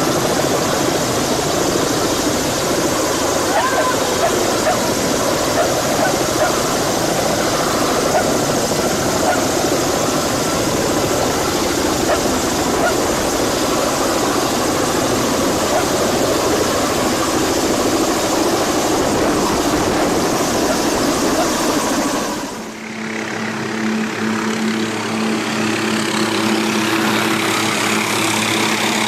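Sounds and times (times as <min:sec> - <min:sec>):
helicopter engine and rotor chop: 0:00.0 - 0:29.0.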